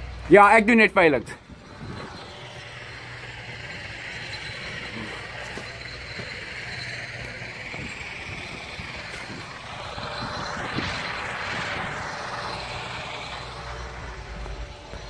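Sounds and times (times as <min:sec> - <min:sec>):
distant aircraft passing: 0:00.0 - 0:15.0
steady low hum: 0:00.0 - 0:15.0.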